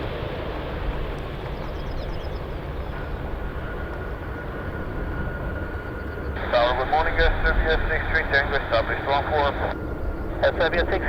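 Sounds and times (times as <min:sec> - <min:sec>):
faint high engine whine: 0:00.0 - 0:11.0
jet engines rumbling: 0:00.0 - 0:11.0.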